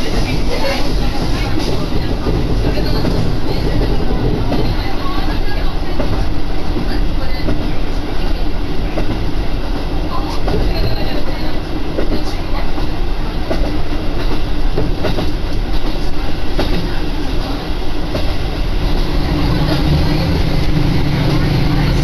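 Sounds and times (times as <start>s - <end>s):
railcar engine drone: 0.0s - 22.0s
wheels clicking on track: 0.0s - 22.0s.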